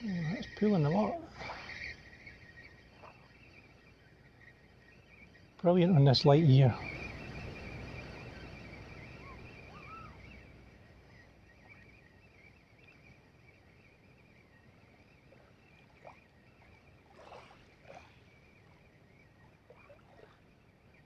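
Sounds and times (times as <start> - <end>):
water lapping at shoreline: 0.0 - 21.0.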